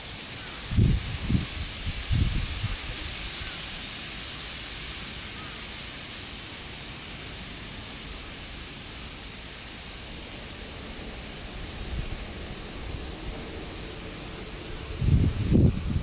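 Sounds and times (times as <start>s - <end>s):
even hiss: 0.0s - 16.0s.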